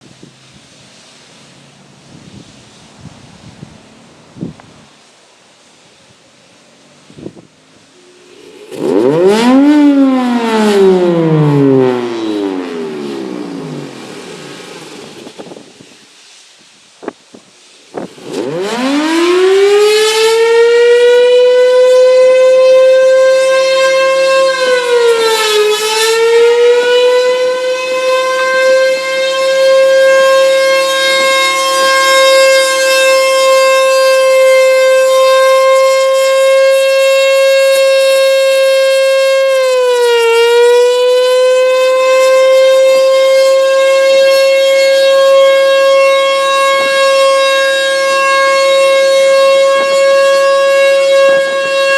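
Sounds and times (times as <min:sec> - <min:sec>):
warning siren growling: 0:07.8 - 0:15.9, 0:17.9 - 0:51.9.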